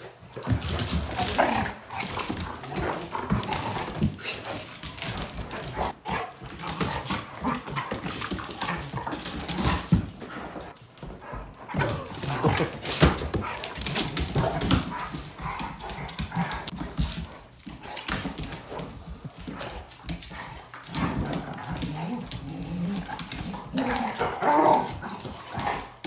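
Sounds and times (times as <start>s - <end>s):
dogs growling: 0.4s - 10.8s, 11.6s - 16.9s, 18.6s - 26.0s.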